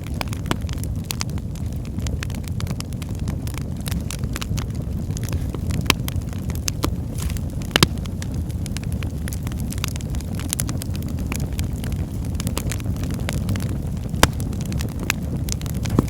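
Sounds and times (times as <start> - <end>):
fire popping and snapping: 0.0 - 16.0
fire rumbling: 0.0 - 16.0.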